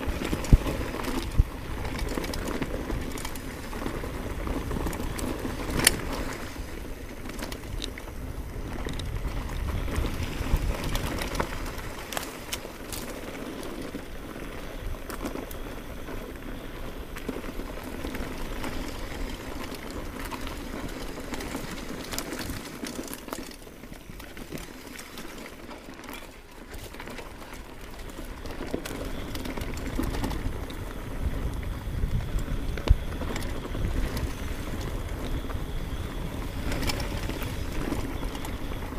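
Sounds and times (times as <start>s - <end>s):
bike clicks and rattles: 0.0s - 38.9s
bike tyres on dirt trail: 0.0s - 38.9s.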